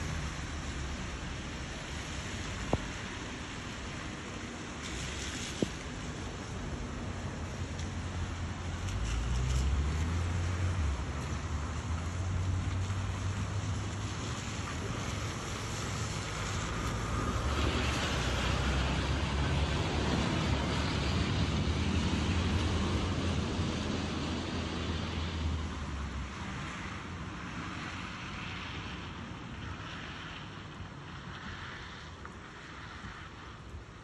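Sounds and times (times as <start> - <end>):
fast-flowing floodwater: 0.0 - 31.0
heavy rain: 0.0 - 34.0
wind rumbling on microphone: 0.0 - 34.0.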